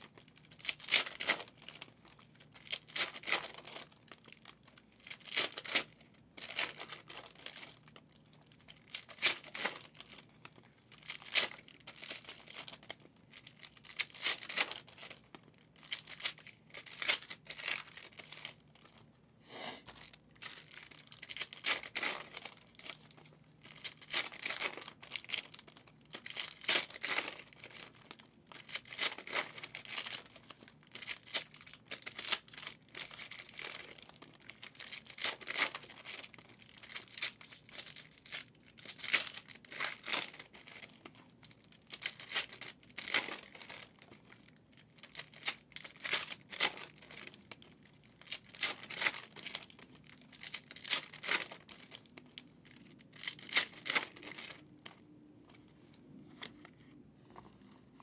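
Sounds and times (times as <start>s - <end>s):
plastic wrappers tearing and crinkling: 0.0s - 19.1s, 19.9s - 55.0s.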